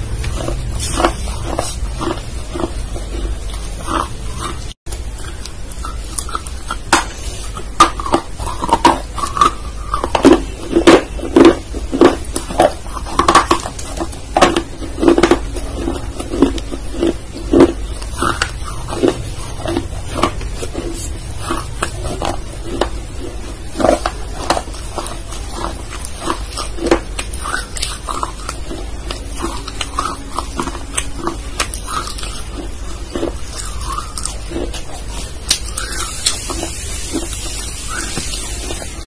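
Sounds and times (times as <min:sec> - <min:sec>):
low steady hum: 0:00.0 - 0:39.0
wet mouth sounds: 0:00.0 - 0:39.0.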